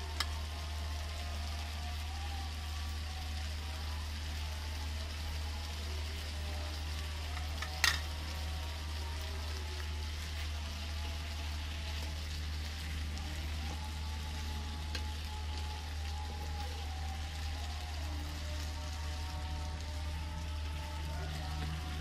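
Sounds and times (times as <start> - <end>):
potatoes sizzling in oil: 0.0 - 22.0.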